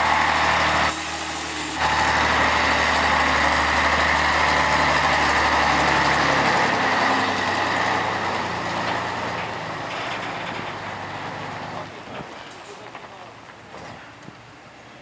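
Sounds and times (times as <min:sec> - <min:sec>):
diesel truck engine running: 0:00.0 - 0:14.2.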